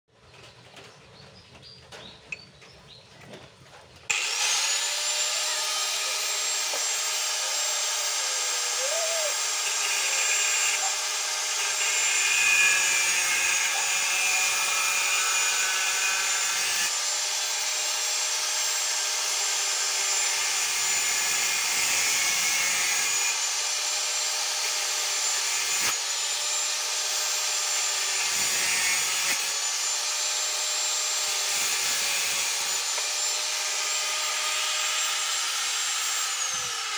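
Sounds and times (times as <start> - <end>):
angle grinder cutting metal: 4.1 - 36.9.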